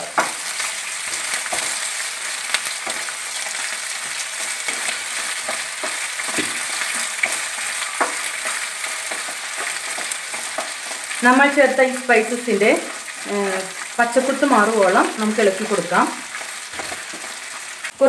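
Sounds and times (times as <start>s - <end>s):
chillies sizzling in hot oil: 0.0s - 18.0s.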